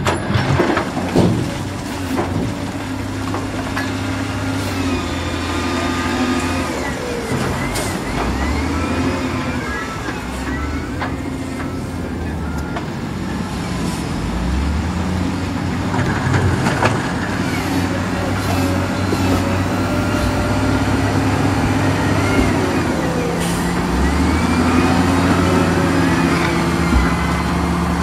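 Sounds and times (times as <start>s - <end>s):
heavy diesel engines under load: 0.0s - 28.0s.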